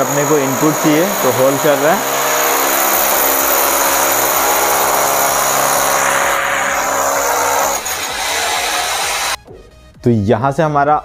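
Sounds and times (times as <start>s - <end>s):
electric drill boring into masonry: 0.0s - 9.4s.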